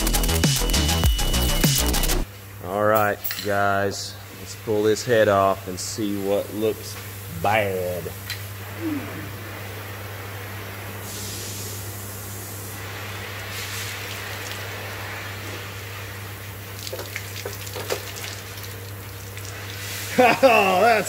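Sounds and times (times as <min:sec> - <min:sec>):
even hissing noise: 0:00.0 - 0:21.0
low shop hum: 0:00.0 - 0:21.0.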